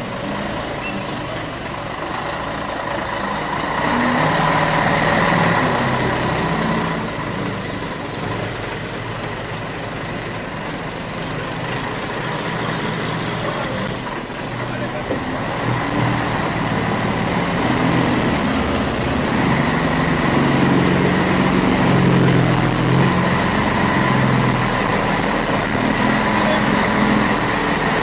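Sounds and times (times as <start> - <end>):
diesel truck engine under load: 0.0 - 28.0.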